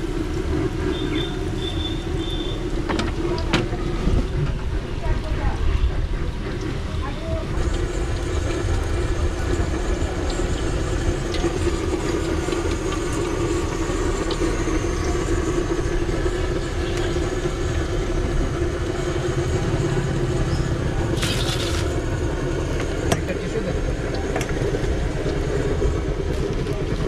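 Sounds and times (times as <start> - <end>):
low mechanical drone: 0.0 - 27.0.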